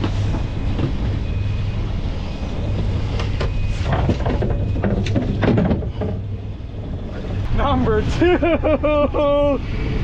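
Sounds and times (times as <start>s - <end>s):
boat engine rumble: 0.0s - 10.0s
wind and water noise: 0.0s - 10.0s.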